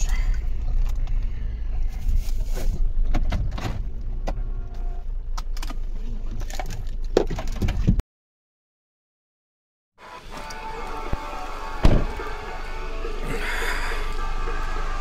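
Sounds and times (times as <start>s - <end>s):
car engine rumbling: 0.0s - 8.0s, 10.0s - 15.0s.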